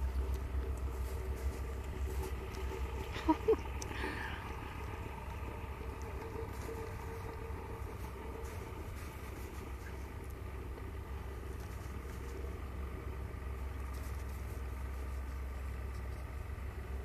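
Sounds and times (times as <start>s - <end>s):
faint hum: 0.0s - 17.0s
low background rumble: 0.0s - 17.0s.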